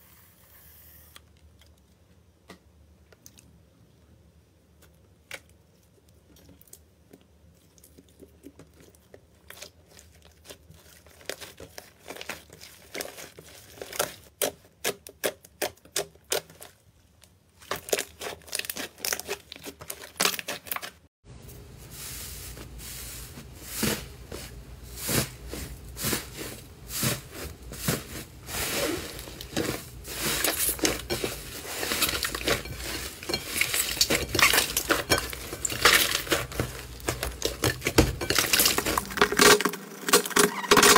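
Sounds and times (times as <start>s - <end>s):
slime squelching: 4.8s - 21.1s, 22.5s - 40.7s.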